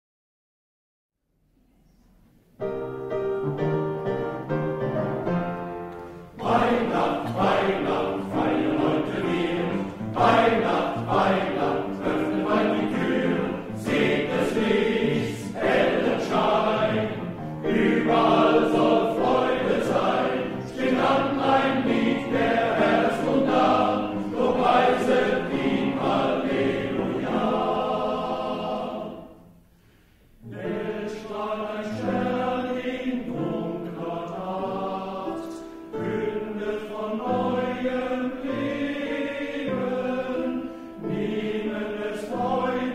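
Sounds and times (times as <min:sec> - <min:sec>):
piano accompaniment: 0:02.4 - 0:29.8, 0:30.4 - 0:42.9
men's choir singing: 0:06.2 - 0:29.6, 0:30.4 - 0:42.9.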